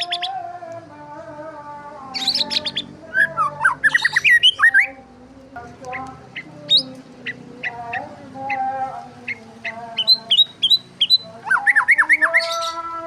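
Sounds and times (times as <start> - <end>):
small birds chirping: 0.0 - 0.5, 2.0 - 13.0.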